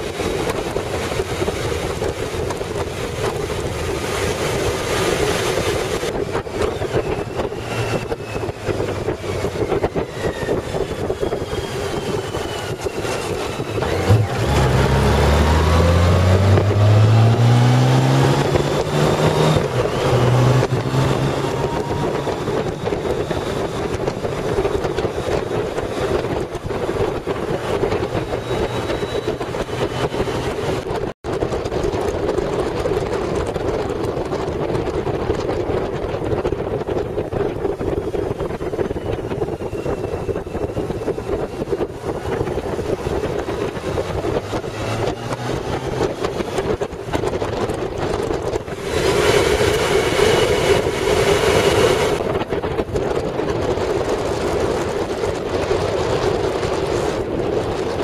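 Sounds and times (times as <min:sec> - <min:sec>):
motorcycle engine drone: 0:00.0 - 0:58.0
wind rushing over microphone: 0:00.0 - 0:58.0.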